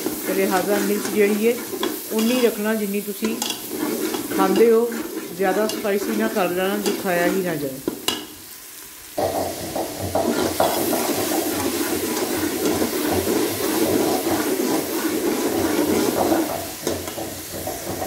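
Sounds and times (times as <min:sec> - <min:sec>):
metal spoon stirring: 0:00.0 - 0:08.2, 0:09.2 - 0:18.0
masala sizzling in hot oil: 0:00.0 - 0:18.0.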